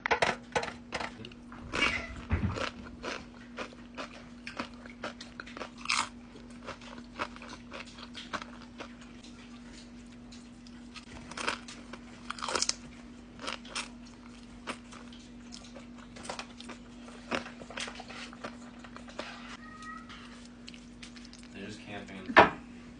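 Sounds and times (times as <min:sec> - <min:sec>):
chewing and biting food: 0:01.2 - 0:19.2, 0:20.1 - 0:21.6.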